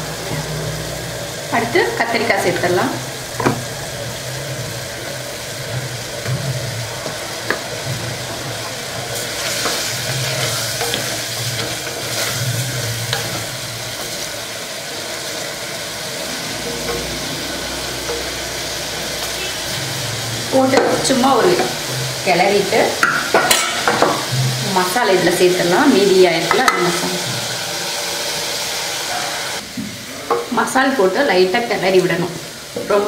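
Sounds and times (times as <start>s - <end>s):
food sizzling in a pot: 0.0s - 33.0s.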